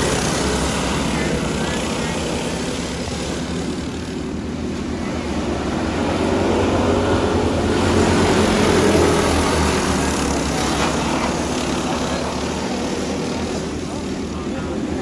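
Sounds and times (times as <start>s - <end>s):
go-kart engines buzzing: 0.0s - 15.0s.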